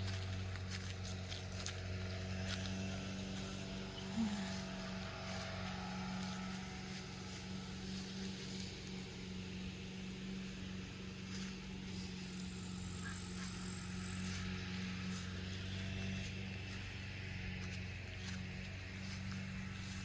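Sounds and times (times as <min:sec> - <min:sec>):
steady low machine hum: 0:00.0 - 0:20.0.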